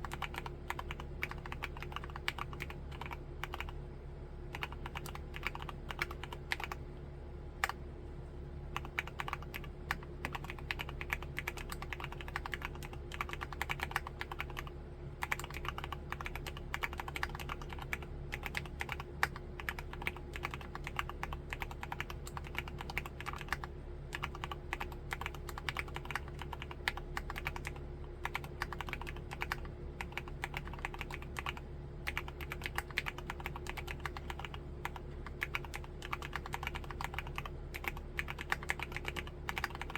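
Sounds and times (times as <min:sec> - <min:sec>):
mechanical keyboard typing: 0:00.0 - 0:03.7, 0:04.5 - 0:06.8, 0:08.8 - 0:39.9.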